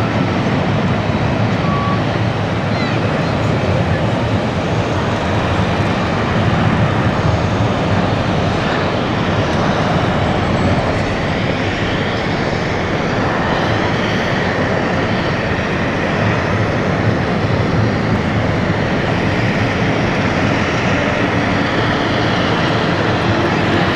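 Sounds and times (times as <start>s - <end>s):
faint engine whine: 0.0s - 23.9s
jet engines at takeoff: 0.0s - 23.9s.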